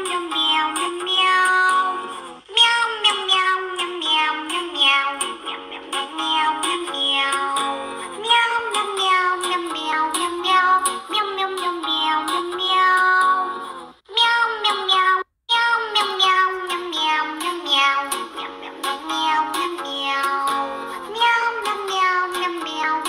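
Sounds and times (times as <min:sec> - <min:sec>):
song in high childlike voice: 0:00.0 - 0:23.0.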